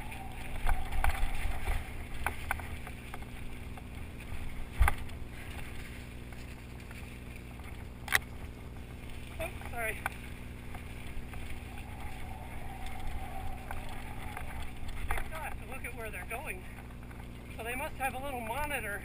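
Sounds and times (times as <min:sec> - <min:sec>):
wind rumble on microphone: 0:00.0 - 0:17.6.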